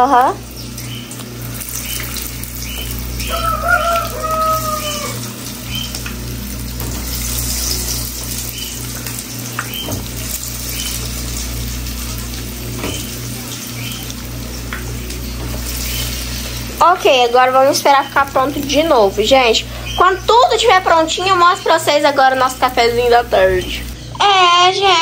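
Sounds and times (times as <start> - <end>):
fritters sizzling in hot oil: 0.0 - 24.0.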